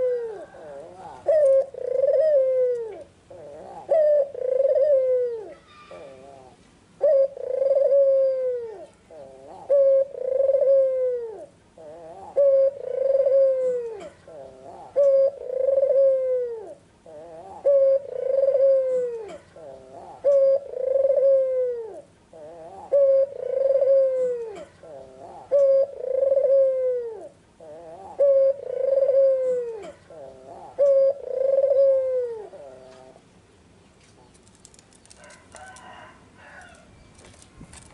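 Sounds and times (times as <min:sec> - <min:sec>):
dove cooing: 0:00.0 - 0:33.3, 0:34.2 - 0:37.9.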